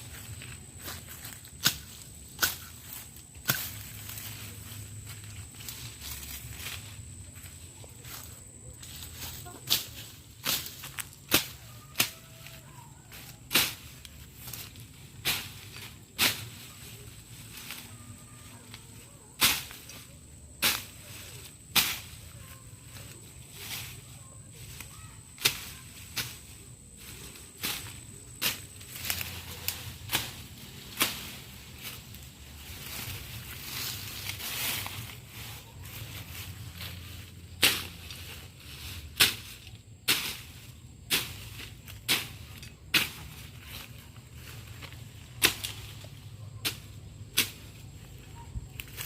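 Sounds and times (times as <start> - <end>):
low outdoor background: 0.0 - 49.0.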